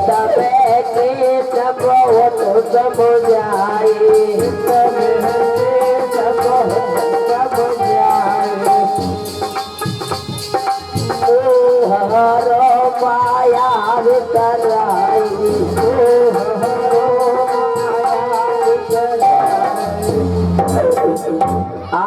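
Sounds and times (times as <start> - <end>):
ornamented melody line: 0.0 - 22.0
steady percussion: 0.0 - 22.0.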